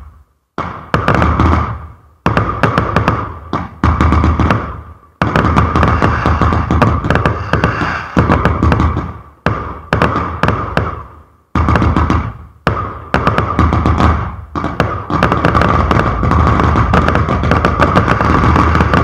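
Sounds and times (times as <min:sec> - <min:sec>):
fireworks volleys of bangs and crackle: 0:00.0 - 0:19.0.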